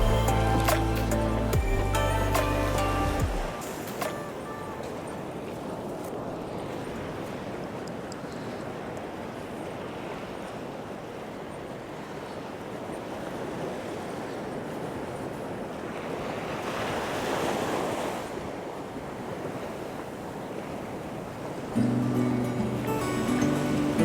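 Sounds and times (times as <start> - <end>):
sea waves breaking on beach: 2.4 - 24.0.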